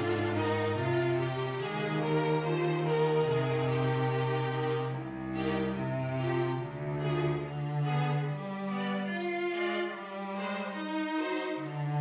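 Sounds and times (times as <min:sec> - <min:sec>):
string trio playing held notes: 0:00.0 - 0:12.0.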